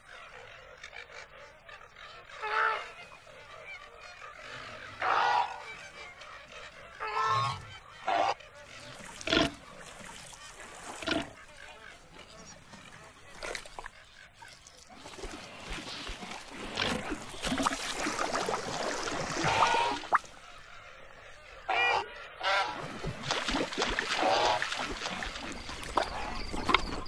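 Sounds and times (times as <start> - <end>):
flamingos honking: 1.2 - 23.0, 24.0 - 26.7.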